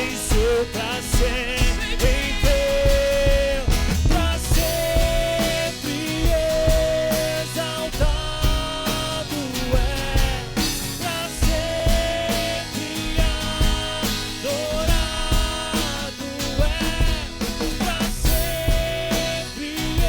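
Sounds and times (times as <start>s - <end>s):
drum kit beat: 0.0s - 20.0s
rock band playing: 0.0s - 20.0s.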